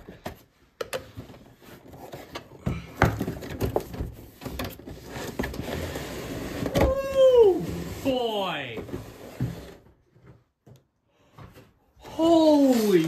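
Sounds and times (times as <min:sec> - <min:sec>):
cardboard and plastic rustling: 0:00.0 - 0:10.8, 0:11.5 - 0:13.0.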